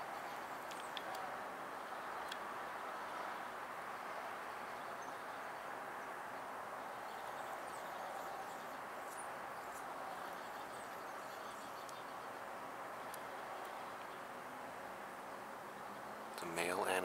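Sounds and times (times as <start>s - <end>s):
outdoor background hum: 0.0s - 17.0s.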